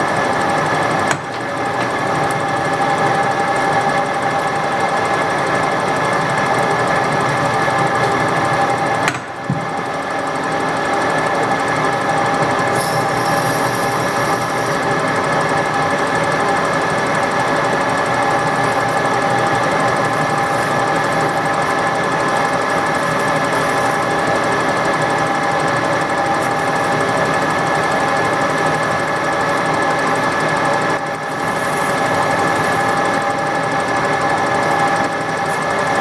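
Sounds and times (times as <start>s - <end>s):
lathe whirring hum: 0.0s - 36.0s.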